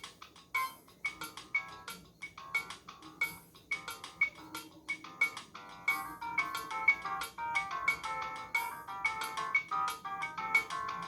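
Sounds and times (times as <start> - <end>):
ringtone melody: 0.0 - 11.0.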